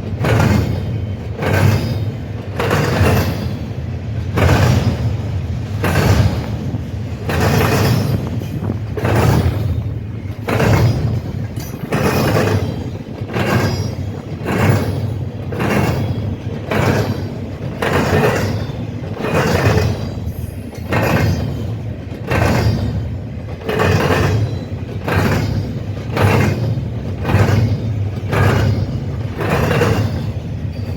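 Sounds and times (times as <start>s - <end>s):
low rumble of rolling train cars: 0.0s - 30.9s
train wheels clanking over rails: 0.0s - 30.9s.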